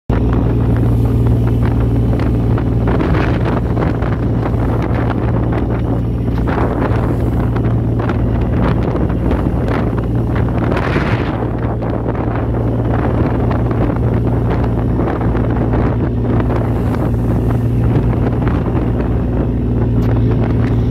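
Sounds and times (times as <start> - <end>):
boat engine humming: 0.1 - 20.9
water rushing along hull: 0.1 - 20.9
wind buffeting microphone: 0.1 - 20.9.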